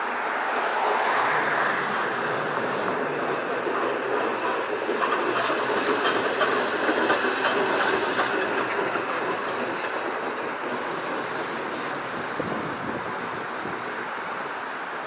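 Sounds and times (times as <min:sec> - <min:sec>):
streetcar wheels rolling on rails: 0:00.0 - 0:15.0.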